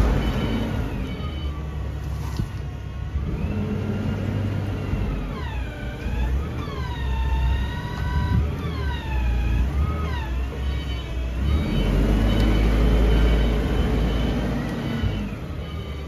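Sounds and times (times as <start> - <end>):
forklift engine rumbling: 0.0 - 16.0.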